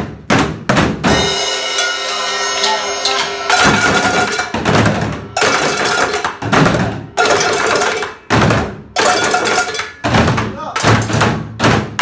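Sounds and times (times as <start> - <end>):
percussion hits on pots and buckets: 0.0 - 12.0.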